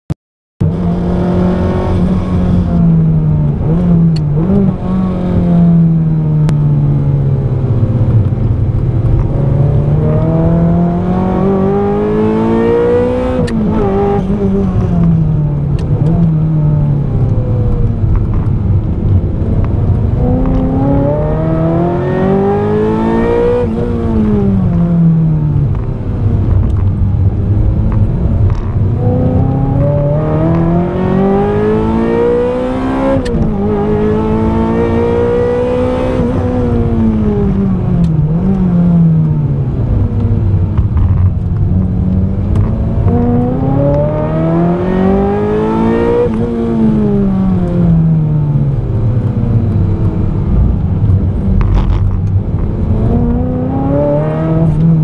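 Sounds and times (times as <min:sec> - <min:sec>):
car engine revving: 0:00.6 - 0:55.0.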